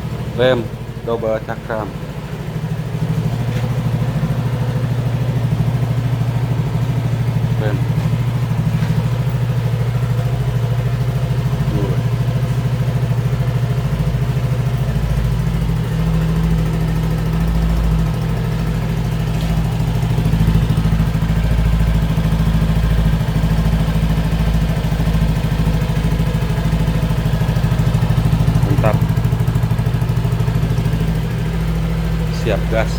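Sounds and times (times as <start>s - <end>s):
scooter engine idling: 0.0s - 32.9s.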